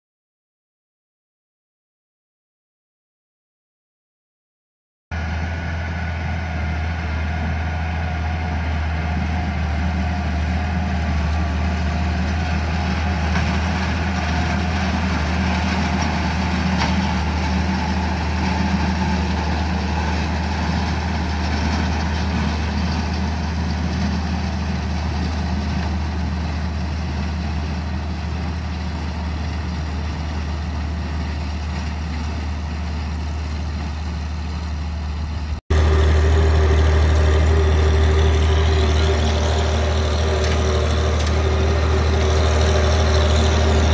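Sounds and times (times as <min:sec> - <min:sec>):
tractor engine running: 0:05.1 - 0:43.9.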